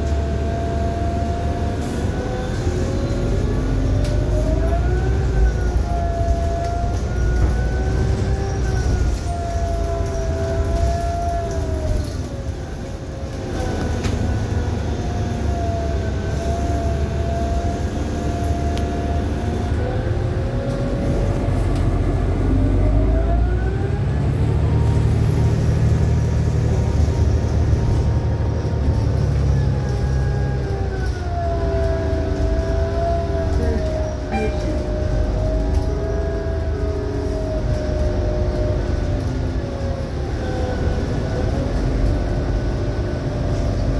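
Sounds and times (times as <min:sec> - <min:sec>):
bus diesel drone: 0:00.0 - 0:43.9
bus whining tone: 0:00.0 - 0:43.9.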